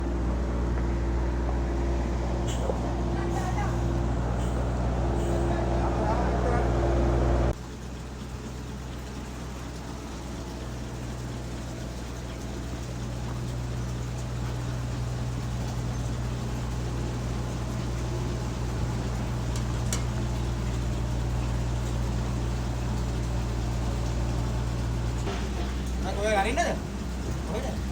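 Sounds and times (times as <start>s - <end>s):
heavy machinery droning: 0.0s - 8.0s, 8.7s - 27.9s.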